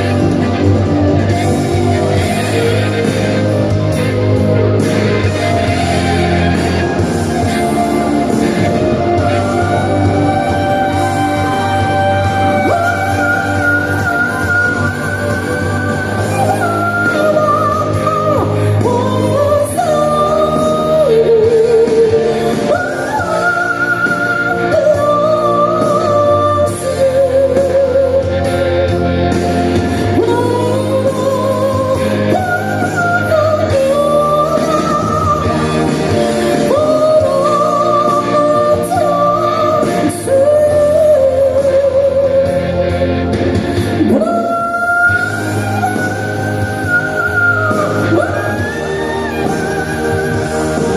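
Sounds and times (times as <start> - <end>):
live band music: 0.0 - 50.9
steady bass line: 0.0 - 50.9.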